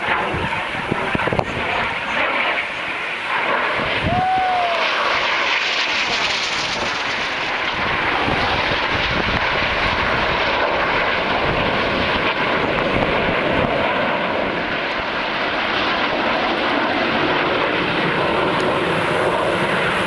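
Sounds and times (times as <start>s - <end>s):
airplane flying past: 0.0s - 20.0s.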